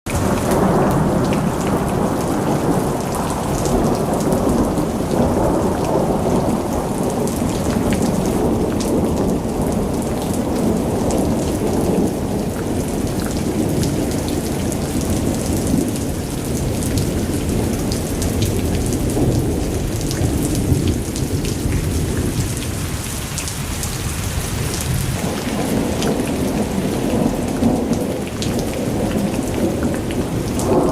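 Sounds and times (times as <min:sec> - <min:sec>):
heavy rain: 0:00.1 - 0:30.9
raindrops ticking on surfaces: 0:00.1 - 0:30.9.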